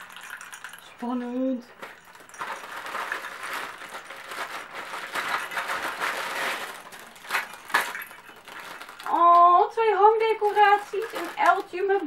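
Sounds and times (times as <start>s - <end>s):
wrapping paper rustling: 1.8s - 12.0s.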